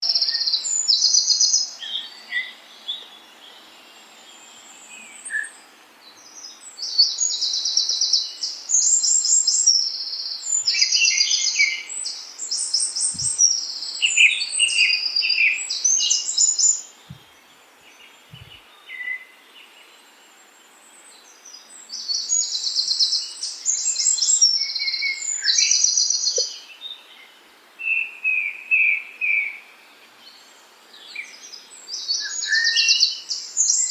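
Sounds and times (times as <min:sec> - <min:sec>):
songbird trilling and chirping: 0:00.0 - 0:20.0, 0:21.0 - 0:33.9
faint outdoor hiss: 0:00.0 - 0:33.9.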